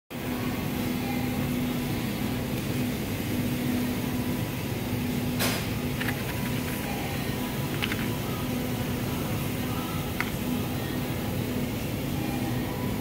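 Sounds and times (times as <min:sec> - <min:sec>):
store interior hum and hiss: 0:00.1 - 0:13.0.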